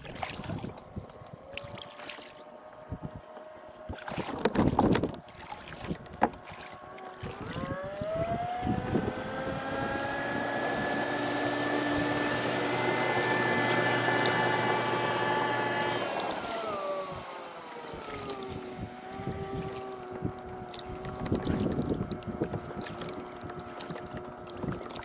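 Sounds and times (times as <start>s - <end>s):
kayak paddle splashing water: 0.0s - 2.8s, 3.4s - 25.0s
motorboat engine speeding up: 0.0s - 25.0s.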